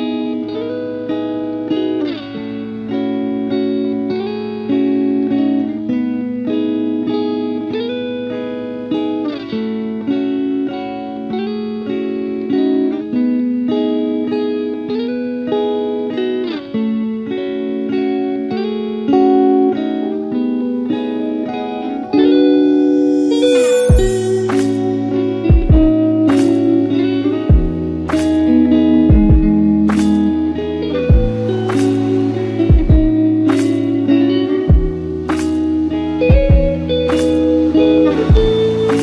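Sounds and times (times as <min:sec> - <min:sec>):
plucked guitar tune: 0:00.0 - 0:39.0.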